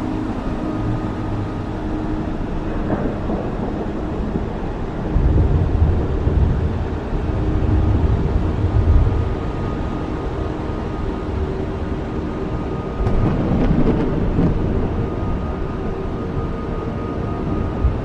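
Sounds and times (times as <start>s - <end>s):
low rumble: 0.0s - 16.7s
steady rain falling: 0.0s - 18.0s.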